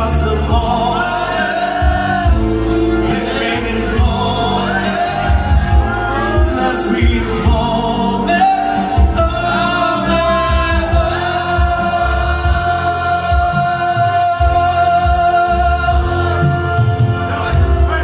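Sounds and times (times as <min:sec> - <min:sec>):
instrumental accompaniment: 0:00.0 - 0:18.0
man singing into microphone: 0:00.0 - 0:18.0.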